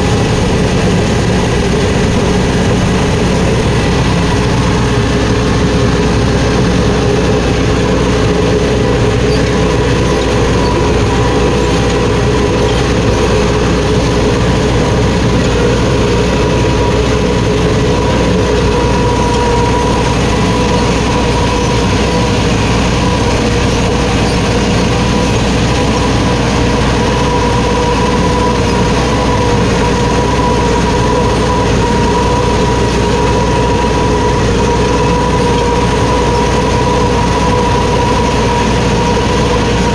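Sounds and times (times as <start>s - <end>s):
engine whine: 0.0s - 39.9s
tractor diesel engine running: 0.0s - 39.9s.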